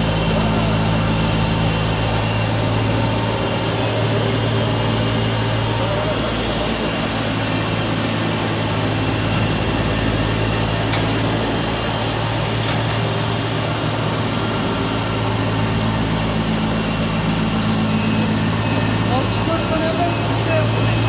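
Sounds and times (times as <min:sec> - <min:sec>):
machine humming and whirring: 0:00.0 - 0:21.0.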